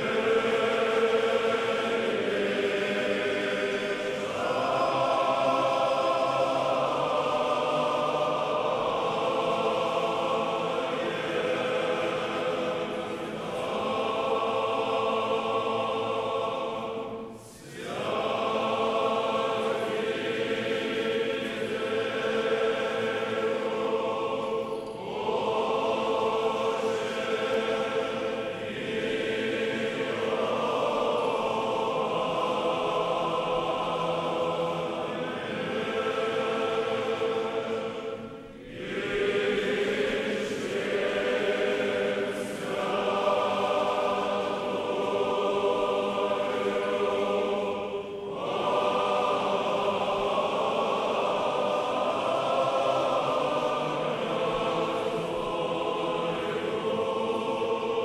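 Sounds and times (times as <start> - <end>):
choir singing unaccompanied chant: 0.0 - 58.0.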